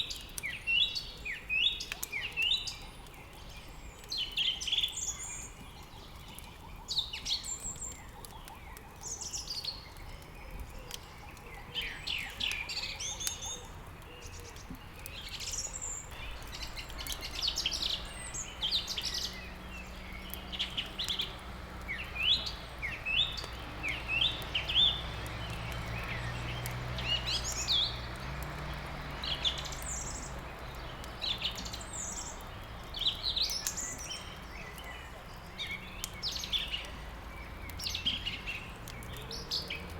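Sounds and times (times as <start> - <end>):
songbirds chirping and singing: 0.0 - 39.9
wood fire crackles: 0.0 - 39.9.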